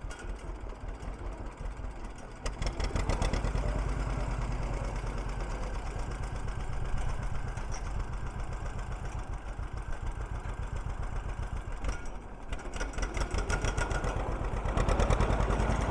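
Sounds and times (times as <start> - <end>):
tractor engine pulsing exhaust: 0.0 - 15.9.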